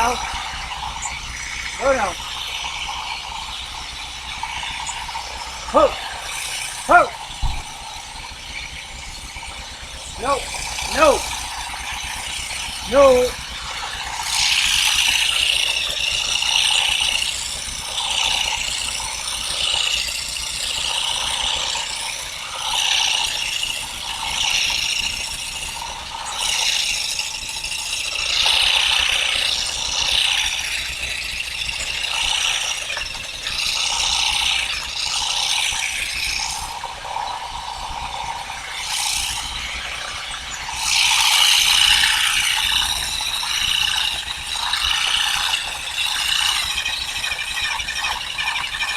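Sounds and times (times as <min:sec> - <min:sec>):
ratchet-like rattling and clicking: 0:00.0 - 0:48.9.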